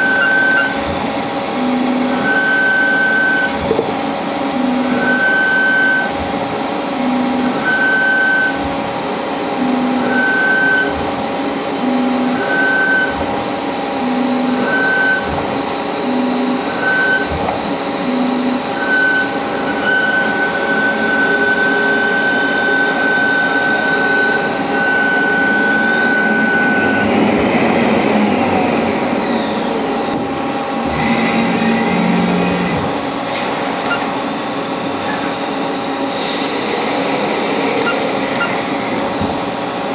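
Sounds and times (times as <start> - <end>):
lathe cutting tone: 0.0 - 39.9
lathe spindle whine: 0.0 - 39.9.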